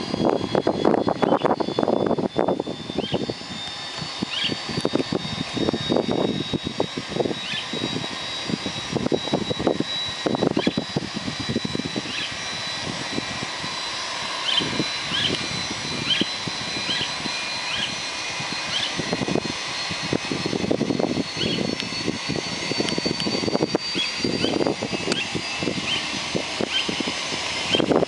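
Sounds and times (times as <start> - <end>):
auxiliary power unit whine: 0.0 - 28.0.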